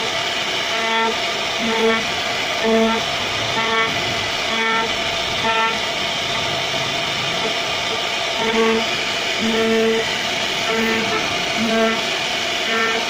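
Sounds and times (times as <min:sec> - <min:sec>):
router cutting wood: 0:00.0 - 0:13.0.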